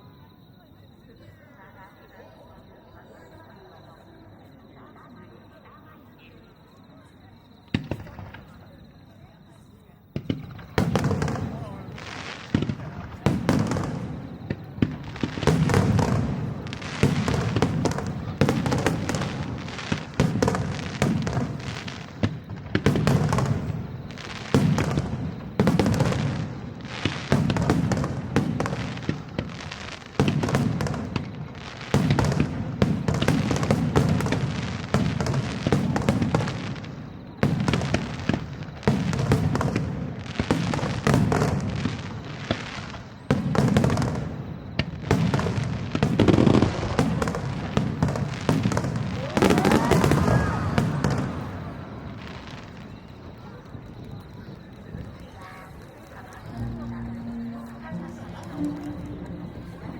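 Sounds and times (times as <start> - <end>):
firework shells bursting: 10.2 - 59.9.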